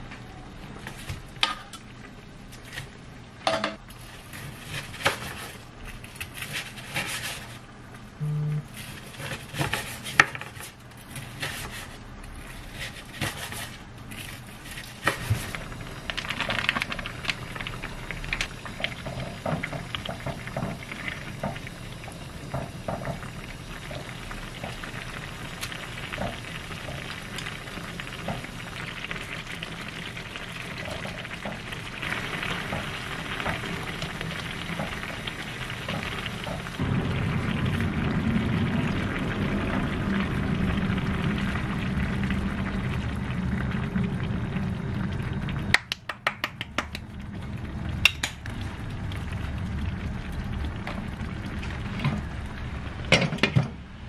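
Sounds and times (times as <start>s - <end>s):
broth boiling and bubbling: 0.0s - 54.0s.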